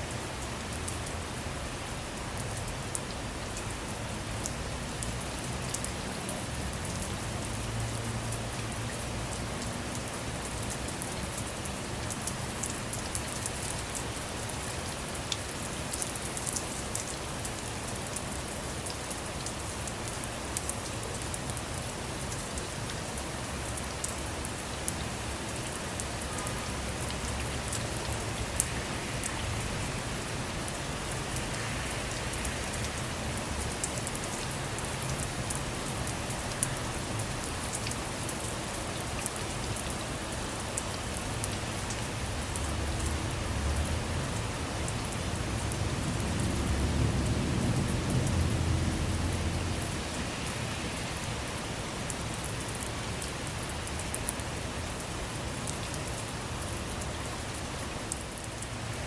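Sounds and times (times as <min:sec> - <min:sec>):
rain falling on a car: 0:00.0 - 0:59.0.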